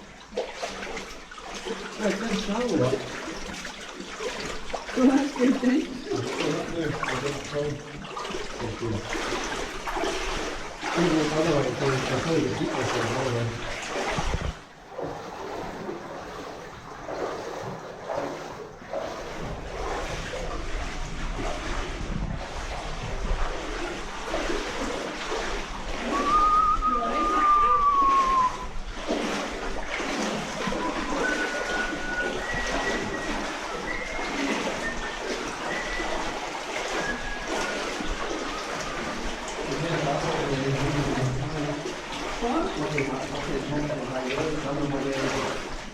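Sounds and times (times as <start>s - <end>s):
footsteps wading through muddy water: 0.0s - 45.9s.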